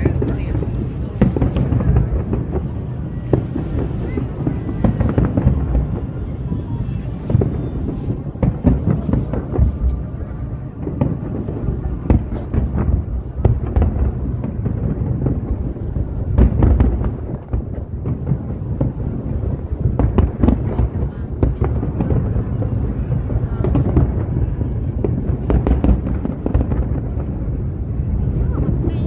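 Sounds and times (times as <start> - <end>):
firework bangs and crackles: 0.0 - 29.0.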